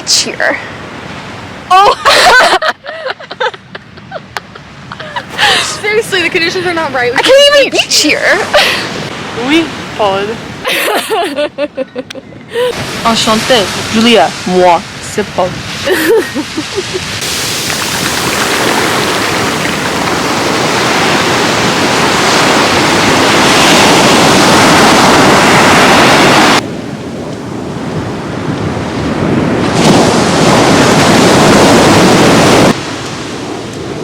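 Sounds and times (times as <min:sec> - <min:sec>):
ocean surf washing on beach: 0:00.0 - 0:11.6, 0:12.5 - 0:34.0
wind buffeting microphone: 0:02.9 - 0:34.0.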